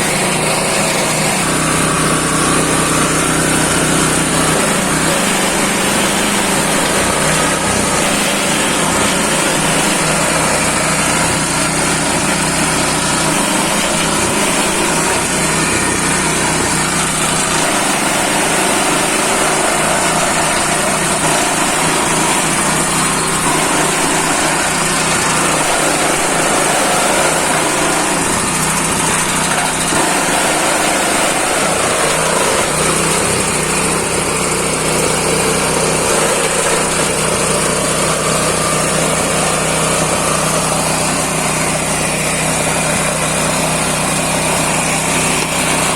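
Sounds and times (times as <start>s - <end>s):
chopping machine engine drone: 0.0s - 45.9s.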